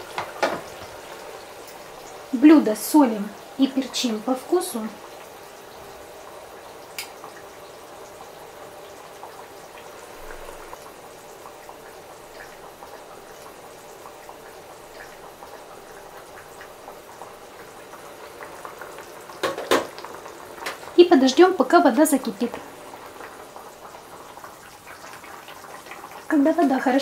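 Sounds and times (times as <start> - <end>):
water bubbling in a frying pan: 0.0 - 27.0.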